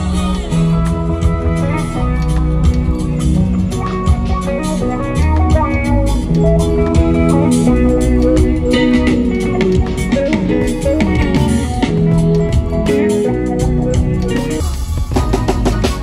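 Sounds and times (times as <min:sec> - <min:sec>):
deep bass: 0:00.0 - 0:16.0
drum kit beat: 0:00.0 - 0:16.0
guitar lines: 0:00.0 - 0:16.0.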